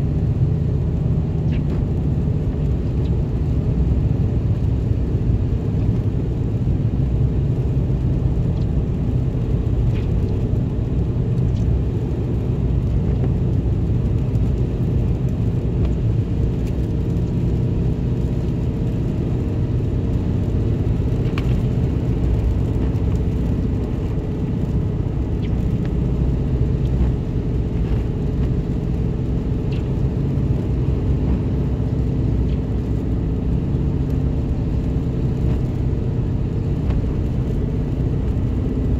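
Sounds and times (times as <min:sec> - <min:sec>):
vehicle driving on wet pavement: 0:00.0 - 0:38.9.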